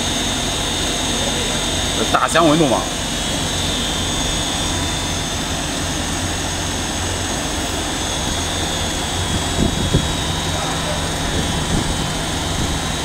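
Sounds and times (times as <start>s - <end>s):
machine drone with high whine: 0.0s - 13.0s.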